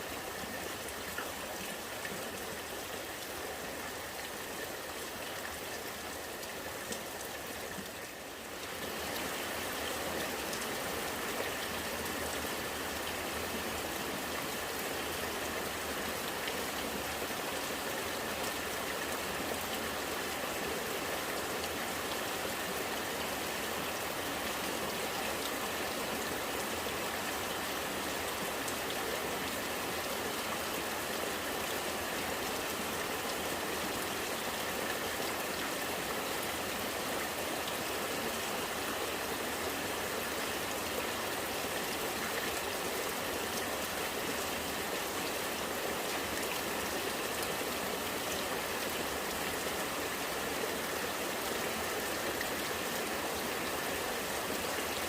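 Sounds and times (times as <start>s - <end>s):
rainwater running and gurgling: 0.0s - 55.0s
steady rain: 0.0s - 55.0s.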